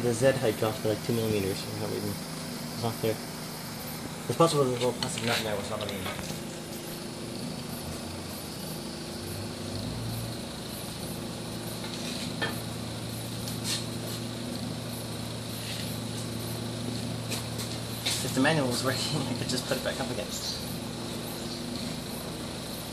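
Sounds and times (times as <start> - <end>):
electrical hum: 0.0 - 22.9.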